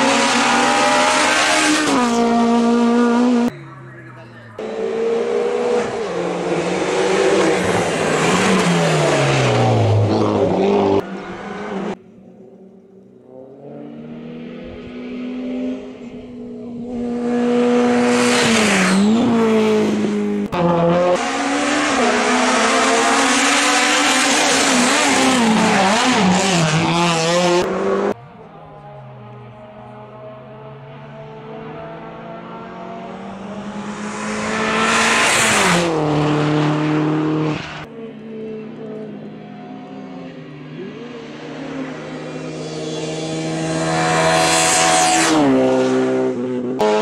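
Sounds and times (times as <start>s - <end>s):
race cars at full throttle: 0.0s - 47.0s.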